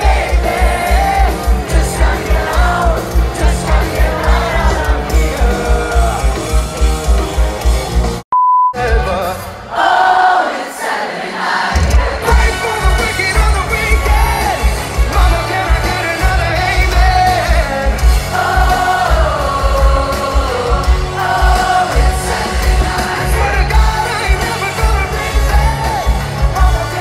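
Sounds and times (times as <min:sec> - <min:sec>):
man singing: 0:00.0 - 0:07.2, 0:08.7 - 0:09.6, 0:12.1 - 0:27.0
drum and bass beat: 0:00.0 - 0:08.2, 0:11.7 - 0:27.0.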